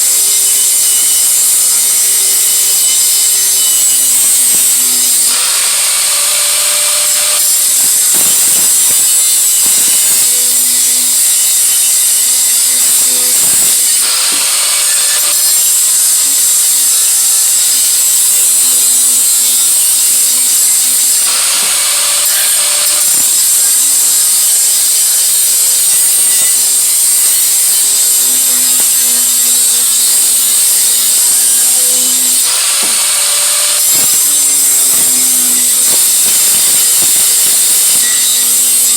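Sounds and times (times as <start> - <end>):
power grinder grinding metal: 0.0 - 38.9.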